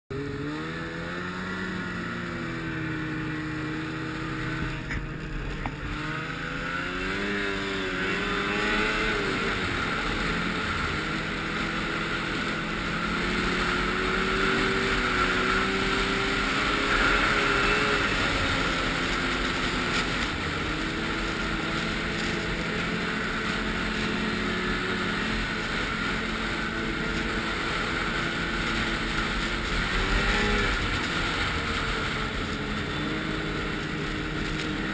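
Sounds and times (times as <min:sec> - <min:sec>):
vehicle engine running: 0:00.1 - 0:34.9.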